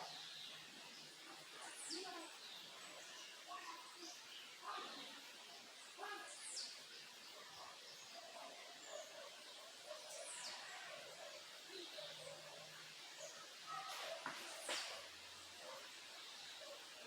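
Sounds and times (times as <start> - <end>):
background hiss: 0.0 - 17.0
birds chirping: 0.0 - 17.0.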